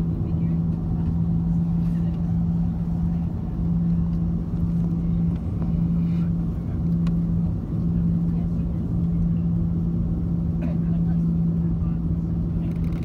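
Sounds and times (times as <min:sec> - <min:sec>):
jet engines humming in cabin: 0:00.0 - 0:13.0
low rumble: 0:00.0 - 0:13.0.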